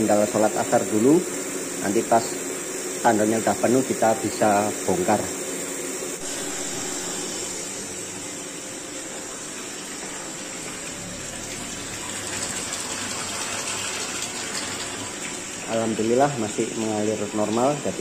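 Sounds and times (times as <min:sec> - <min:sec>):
water gushing into tank: 0:00.0 - 0:18.0.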